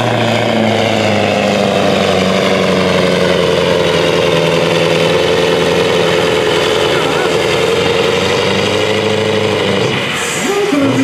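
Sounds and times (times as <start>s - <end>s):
diesel engine under heavy load: 0.0s - 11.0s.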